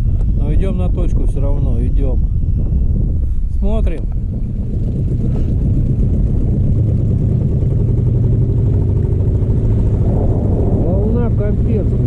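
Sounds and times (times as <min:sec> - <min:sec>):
wind noise on microphone: 0:00.0 - 0:12.0
boat motor running: 0:01.5 - 0:12.0.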